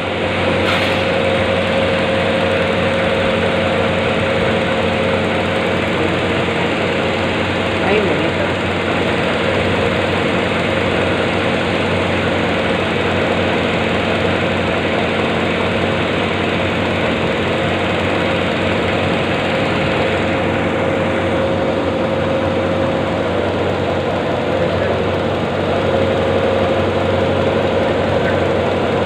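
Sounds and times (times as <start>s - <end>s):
machinery droning: 0.0s - 29.0s.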